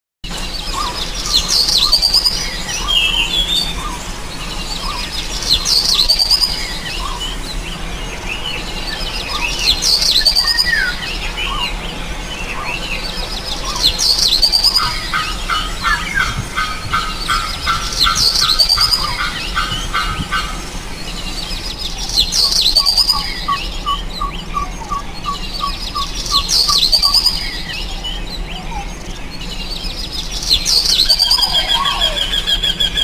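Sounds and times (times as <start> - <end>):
bird chirps: 0.3 - 33.0
bird singing sweeping phrase: 0.3 - 33.0.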